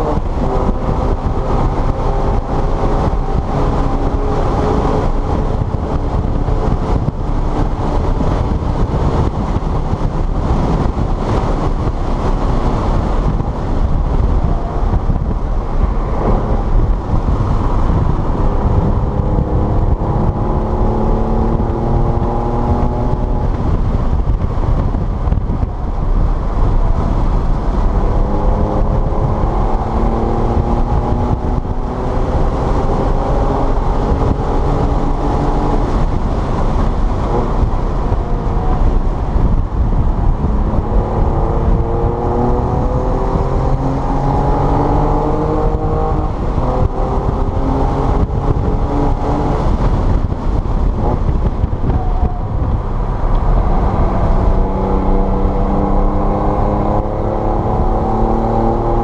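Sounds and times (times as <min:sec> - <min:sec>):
car engine running hard: 0:00.0 - 0:59.0
wind rush and tyre noise: 0:00.0 - 0:59.0.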